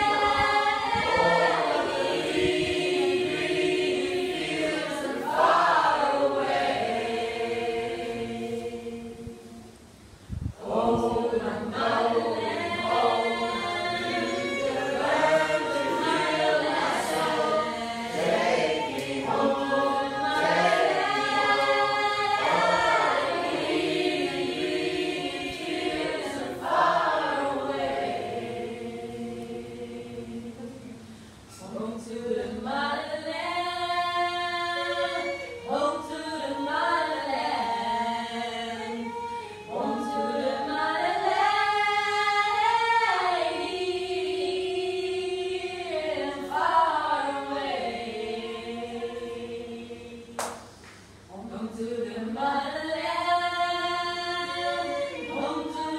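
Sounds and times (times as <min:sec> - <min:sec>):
group of people singing: 0:00.0 - 0:09.9, 0:10.6 - 0:55.9.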